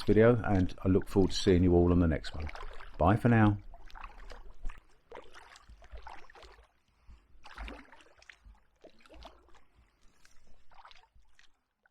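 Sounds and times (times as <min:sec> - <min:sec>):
paddle splashing in water: 0:00.0 - 0:11.9.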